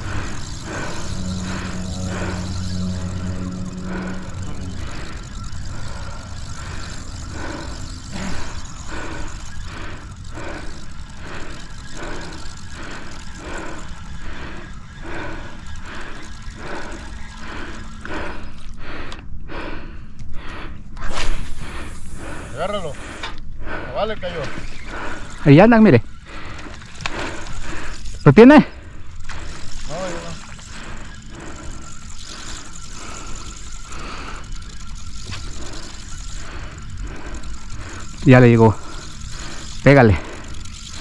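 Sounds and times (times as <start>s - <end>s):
fishing reel whirring: 0.0s - 20.2s, 20.9s - 41.0s
low steady hum: 0.0s - 41.0s.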